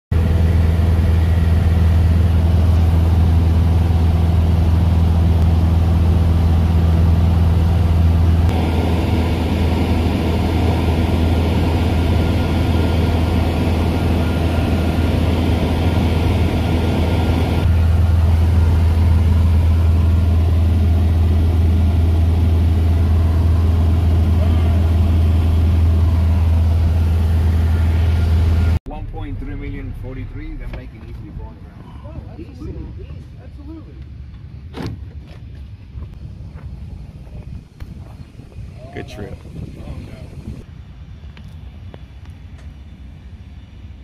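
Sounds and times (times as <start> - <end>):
airplane engine drone in cabin: 0.1 - 44.0.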